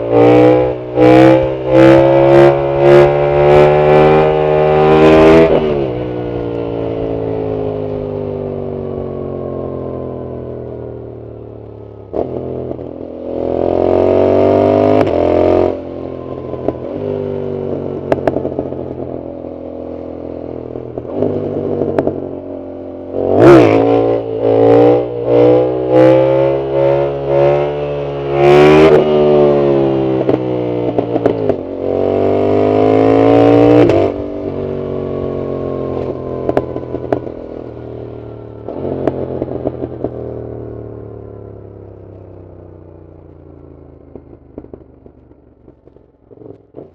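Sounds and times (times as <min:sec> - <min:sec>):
motorcycle engine revving: 0:00.0 - 0:10.8, 0:11.9 - 0:46.9.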